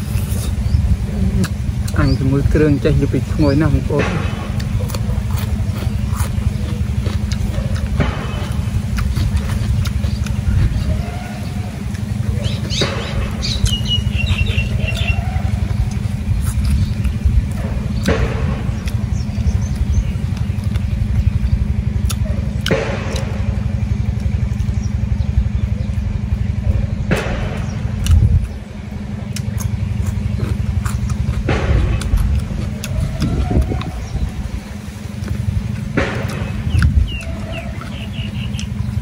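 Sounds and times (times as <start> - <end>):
sharp mouth sounds: 0.0 - 23.6, 27.2 - 39.0
low rumble: 0.0 - 39.0
person chewing bones: 0.0 - 39.0.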